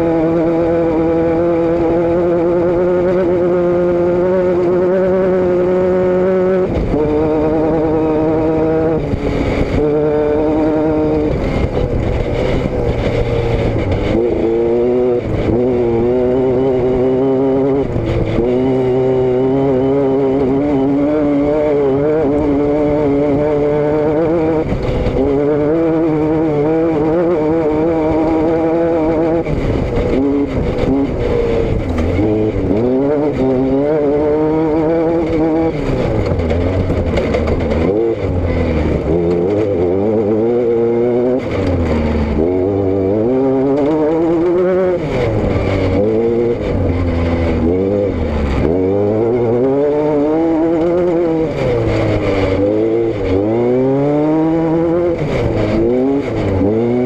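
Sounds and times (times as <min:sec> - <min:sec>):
vehicle engine accelerating: 0:00.0 - 0:57.0.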